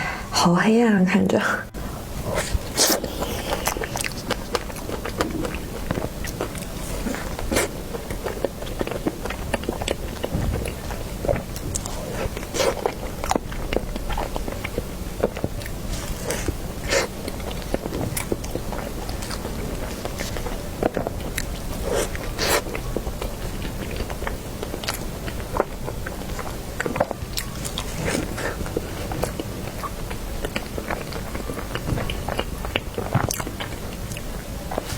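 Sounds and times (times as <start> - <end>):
biting and chewing cheesecake: 2.2 - 34.9.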